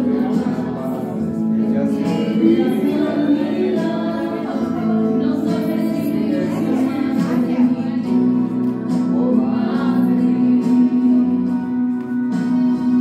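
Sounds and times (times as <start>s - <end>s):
backing music: 0.0s - 13.0s
woman singing: 0.0s - 13.0s.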